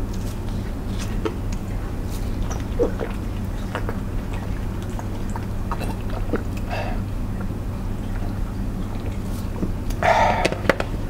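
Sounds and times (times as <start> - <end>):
gulping water: 0.0 - 11.0
steady low hum: 0.0 - 11.0.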